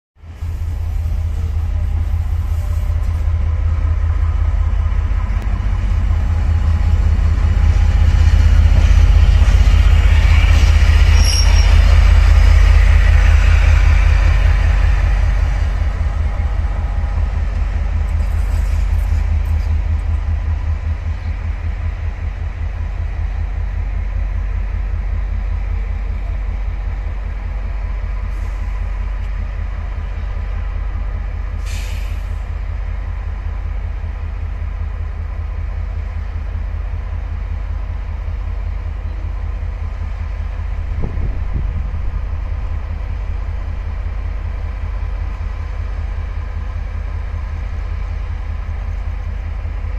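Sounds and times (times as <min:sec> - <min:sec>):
locomotive engine rumbling: 0:00.2 - 0:49.9.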